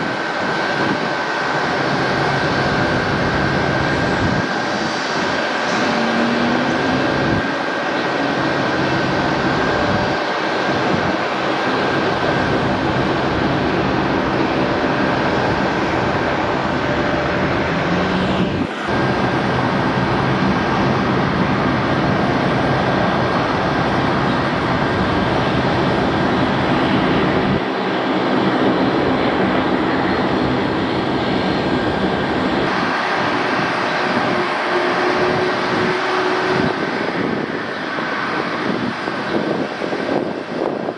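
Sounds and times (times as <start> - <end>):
airliner engines running: 0.0 - 40.9
high engine whine: 0.0 - 40.9.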